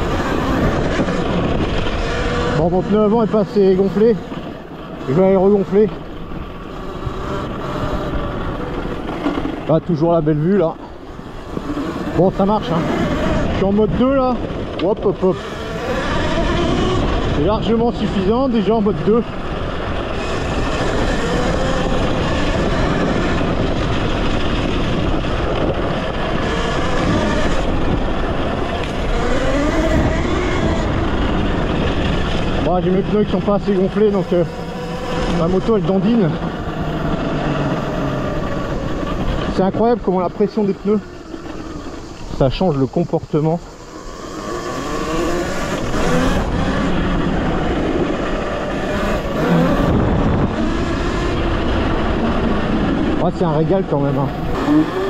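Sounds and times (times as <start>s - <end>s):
electric motor whine: 0.0s - 55.0s
steady rushing noise: 0.0s - 55.0s
tyres on dirt: 0.0s - 55.0s.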